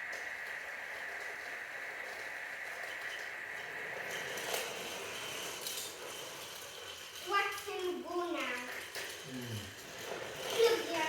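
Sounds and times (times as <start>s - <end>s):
toy train motor whine: 0.0s - 11.0s.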